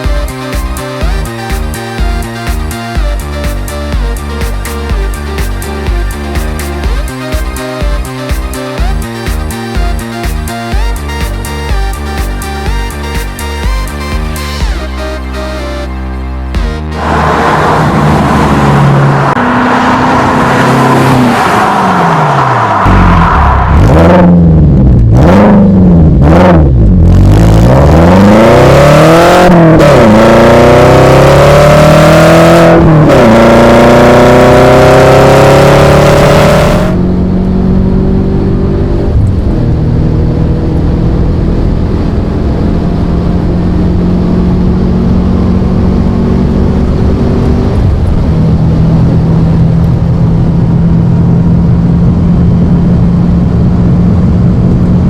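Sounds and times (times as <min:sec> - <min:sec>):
car engine revving and accelerating: 0:00.0 - 0:15.7, 0:16.5 - 0:55.0.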